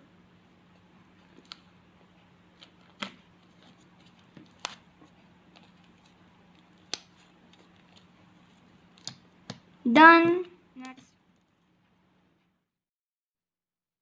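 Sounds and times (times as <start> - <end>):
faint steady hum: 0.0 - 12.7.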